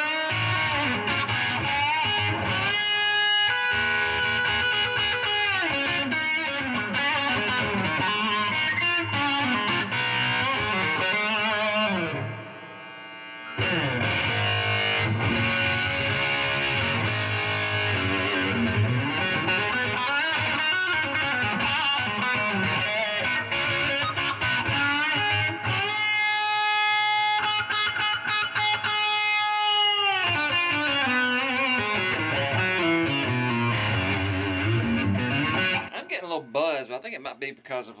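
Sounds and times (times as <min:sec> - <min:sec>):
electric guitar lead lines: 0:00.0 - 0:36.9.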